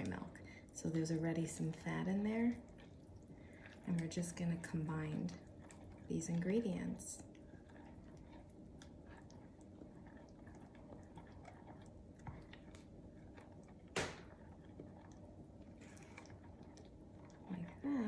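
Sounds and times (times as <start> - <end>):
spatula stirring batter: 0.0 - 18.0.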